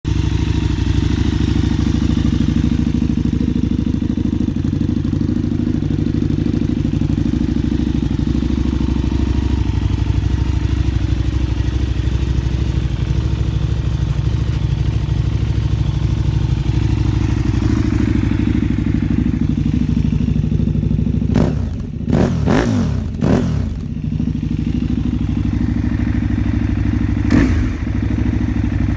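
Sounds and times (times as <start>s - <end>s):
motorcycle engine idling: 0.0s - 28.9s
motorcycle engine revving: 0.1s - 28.9s.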